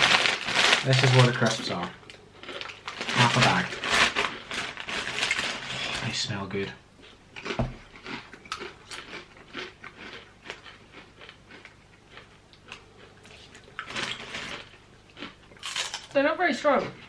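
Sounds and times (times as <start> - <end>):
crisps crunching while chewed: 0.0 - 6.4, 7.0 - 16.2.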